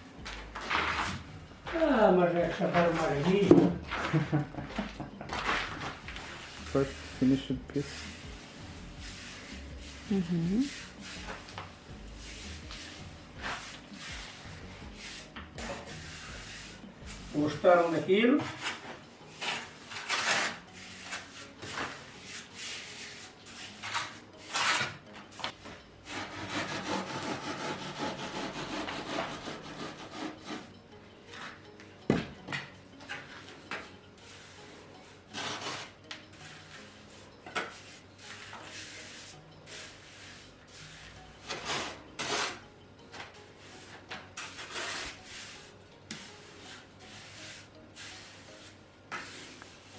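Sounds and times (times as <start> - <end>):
rubbing and scraping on hard surface: 0.6 - 4.1, 5.3 - 25.0, 26.1 - 30.7, 35.3 - 42.6, 43.7 - 49.9.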